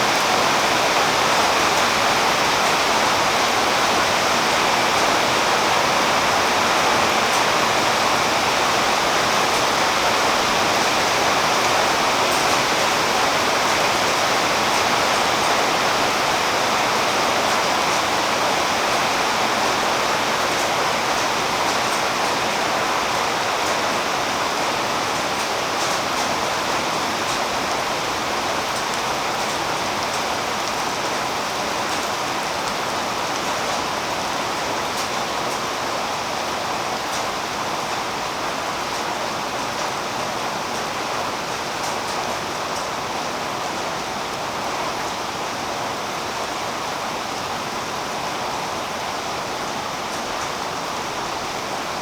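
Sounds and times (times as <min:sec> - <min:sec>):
rain on tree foliage: 0:00.0 - 0:52.0.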